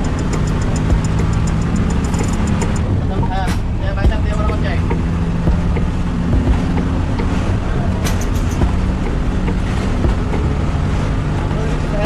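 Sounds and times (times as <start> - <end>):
bus diesel engine drone: 0.0 - 12.0
road noise: 0.0 - 12.0.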